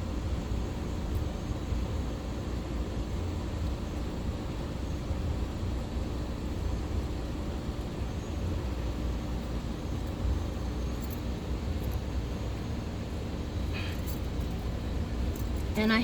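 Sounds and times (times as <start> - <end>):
faint constant hum: 0.0 - 16.0
steady low rumble: 0.0 - 16.0
light hiss: 0.1 - 16.0.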